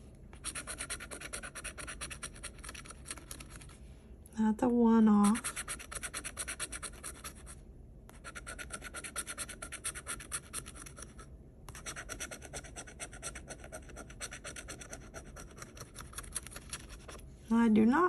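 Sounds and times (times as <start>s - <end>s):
scratching lottery ticket: 0.3s - 3.8s, 5.0s - 17.2s.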